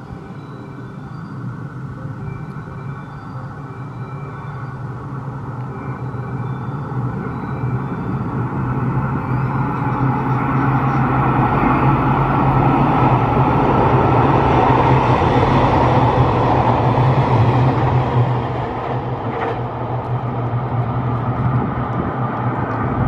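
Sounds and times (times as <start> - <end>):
diesel engine hum: 0.0 - 23.0
train wheel-and-rail noise: 0.0 - 23.0.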